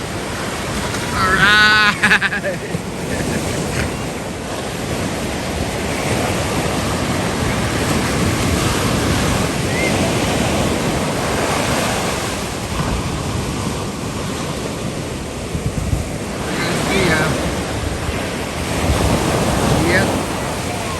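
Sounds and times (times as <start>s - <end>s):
ocean surf breaking: 0.0s - 20.9s
wind buffeting microphone: 0.0s - 20.9s.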